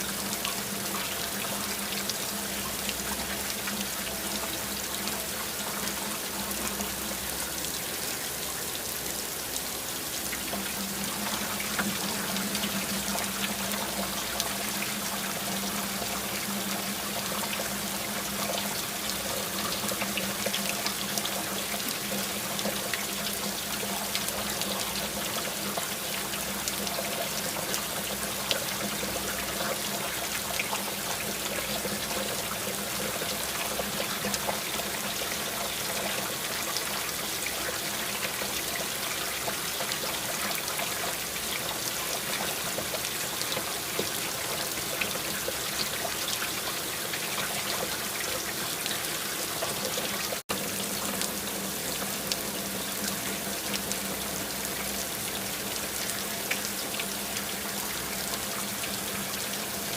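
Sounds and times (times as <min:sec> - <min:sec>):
rain drops pattering: 0:00.0 - 0:59.9
water trickling: 0:00.0 - 0:59.9.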